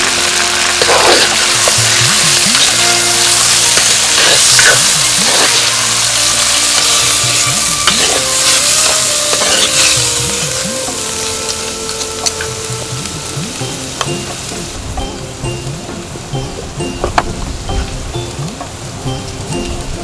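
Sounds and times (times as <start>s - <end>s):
prawns sizzling in a pot: 0.0s - 20.0s
soft background music: 0.0s - 20.0s.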